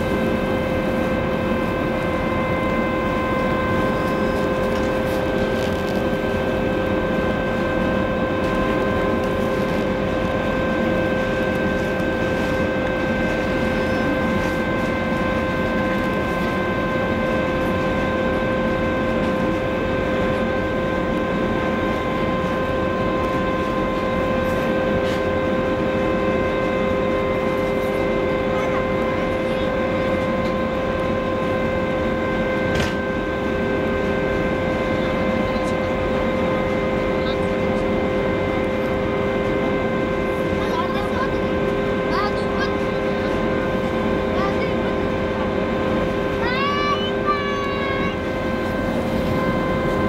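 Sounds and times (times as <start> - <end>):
constant humming tone: 0.0 - 50.0
ship engines droning: 0.0 - 50.0.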